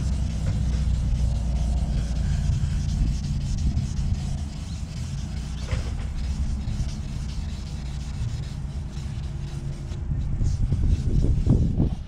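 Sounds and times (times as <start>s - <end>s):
sandpaper rubbing hiss: 0.0s - 12.0s
steady low rumble: 0.0s - 12.0s.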